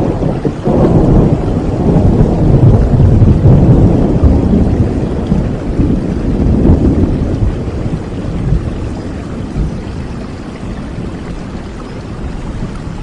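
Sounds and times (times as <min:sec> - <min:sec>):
deep rumble of thunder: 0:00.0 - 0:13.0
heavy rain: 0:00.0 - 0:13.0.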